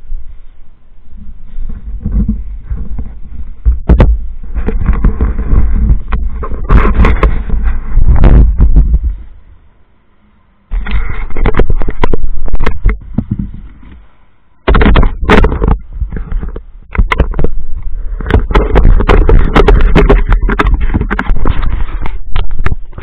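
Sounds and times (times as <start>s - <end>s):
handling noise on camera: 0.2s - 9.4s, 10.7s - 23.0s.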